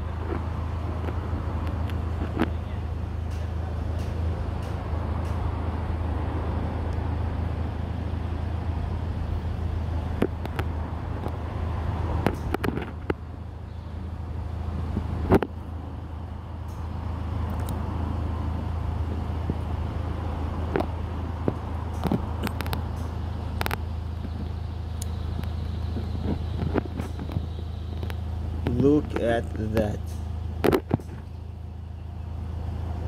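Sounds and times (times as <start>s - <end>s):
low rumbling hum: 0.0s - 33.0s.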